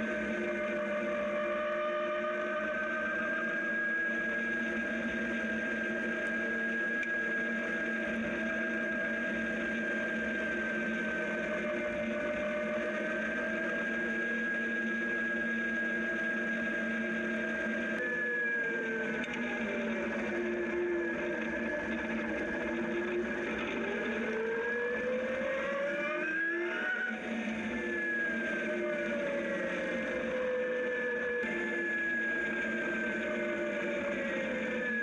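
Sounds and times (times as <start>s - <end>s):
electric motorcycle motor whining: 0.0s - 35.0s.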